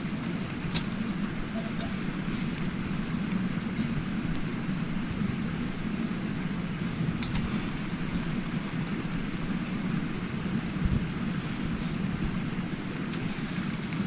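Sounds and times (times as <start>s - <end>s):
campfire crackling and popping: 0.0s - 14.0s
mountain stream rushing: 0.0s - 14.0s.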